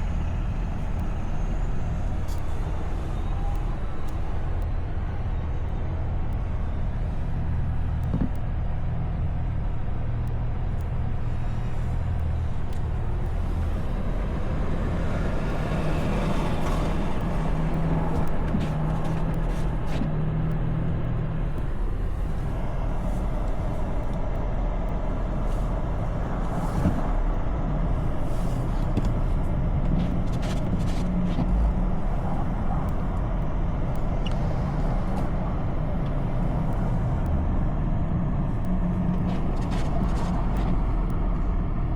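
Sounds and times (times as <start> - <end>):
low engine hum: 0.0 - 41.9
road noise: 0.0 - 41.9.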